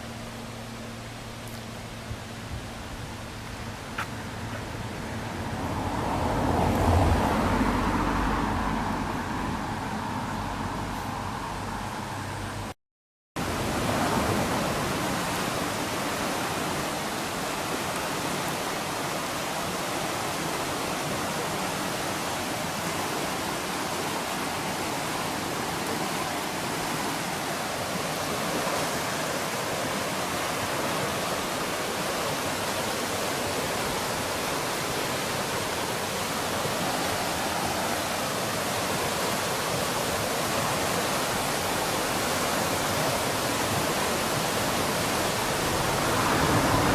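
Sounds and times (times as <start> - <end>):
mountain stream rapids rushing: 0.0 - 12.7, 13.4 - 46.9.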